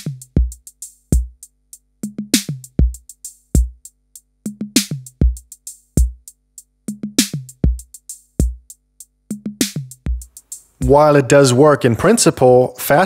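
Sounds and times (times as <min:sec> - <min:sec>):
drum machine beat: 0:00.0 - 0:11.3.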